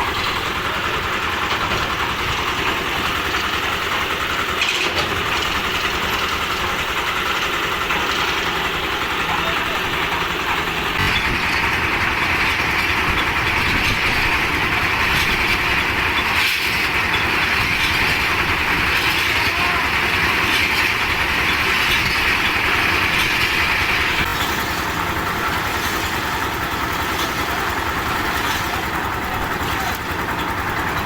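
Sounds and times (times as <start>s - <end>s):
concrete mixer engine running: 0.0s - 31.0s.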